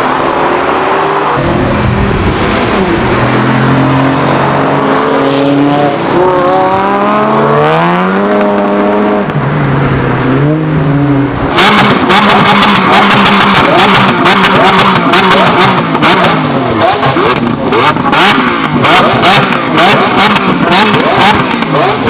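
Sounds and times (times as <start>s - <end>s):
car engine revving and accelerating: 0.0s - 22.0s.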